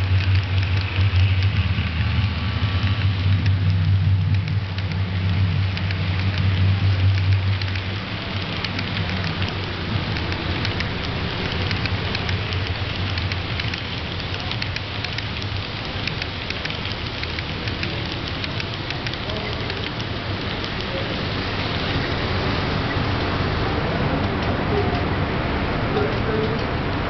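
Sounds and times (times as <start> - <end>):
low hum: 0.0 - 27.0
model train wheels clicking on rails: 0.0 - 27.0.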